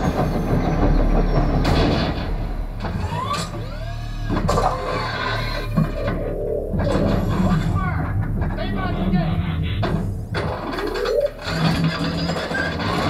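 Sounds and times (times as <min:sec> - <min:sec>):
deep rumble: 0:00.0 - 0:13.0
heavy impacts: 0:00.0 - 0:13.0
swooping mechanical whirs: 0:00.0 - 0:13.0.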